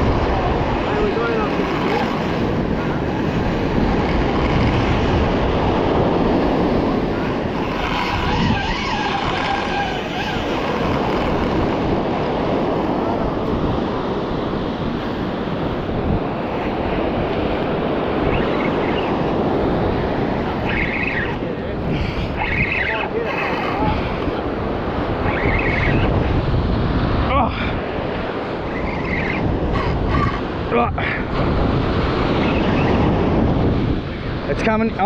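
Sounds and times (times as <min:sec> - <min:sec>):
ocean surf washing on rocks: 0:00.0 - 0:35.0
wind buffeting microphone: 0:00.0 - 0:35.0.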